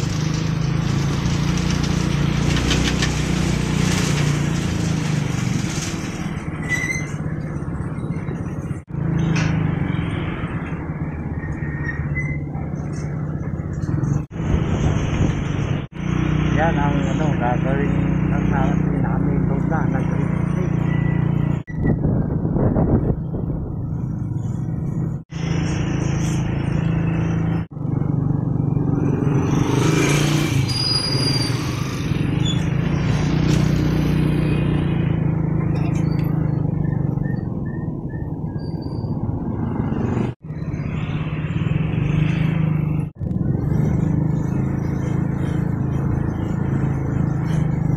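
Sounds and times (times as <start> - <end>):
motorcycle engine running: 0.0 - 11.7, 12.3 - 30.9, 31.5 - 47.9
road and wind noise: 0.0 - 47.9.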